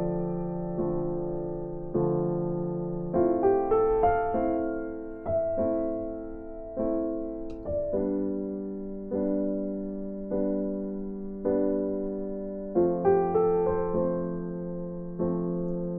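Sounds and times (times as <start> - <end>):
soft piano chords: 0.0 - 15.9.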